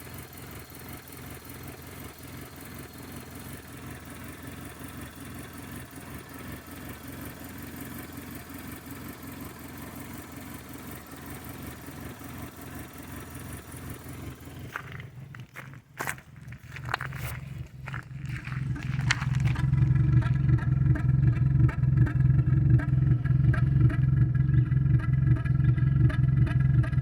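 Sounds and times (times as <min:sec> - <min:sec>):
car engine idling roughly: 0:00.0 - 0:27.0.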